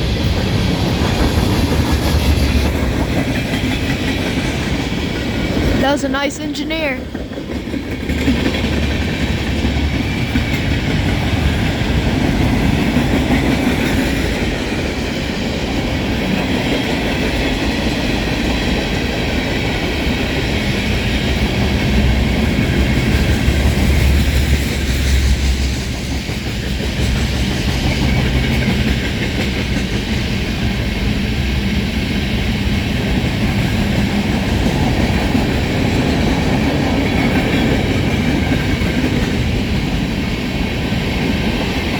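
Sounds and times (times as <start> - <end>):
wheels rattling on rails: 0.0 - 5.8, 7.0 - 41.9
freight train rolling past: 0.0 - 41.9.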